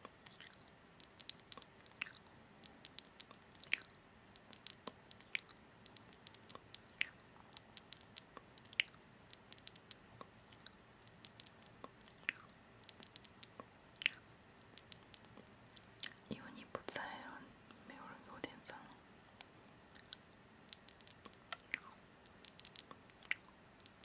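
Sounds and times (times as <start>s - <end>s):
chewing food: 0.0s - 16.3s, 19.4s - 24.0s.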